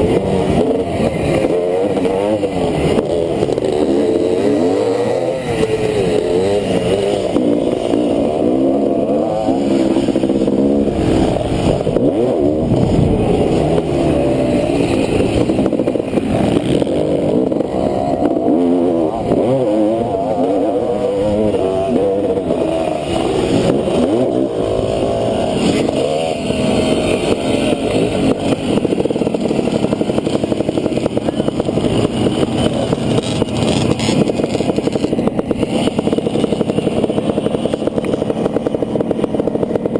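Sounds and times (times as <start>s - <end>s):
motocross engine running hard: 0.0s - 39.9s.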